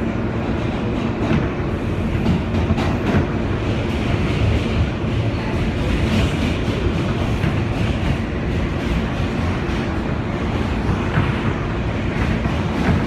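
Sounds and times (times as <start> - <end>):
subway car wheels rumbling on rails: 0.0 - 13.0.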